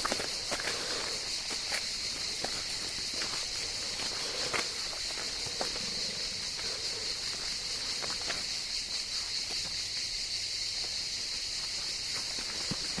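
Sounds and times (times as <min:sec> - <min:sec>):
footsteps walking outdoors: 0:00.0 - 0:13.0
steady high-pitched hiss: 0:00.0 - 0:13.0.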